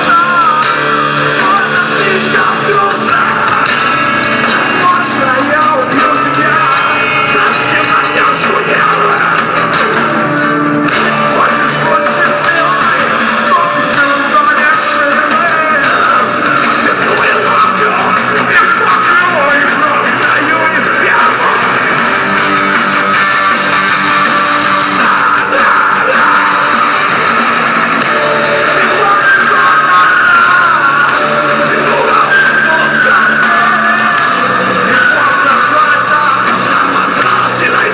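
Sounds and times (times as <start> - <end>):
distorted electric guitar: 0.0 - 37.9.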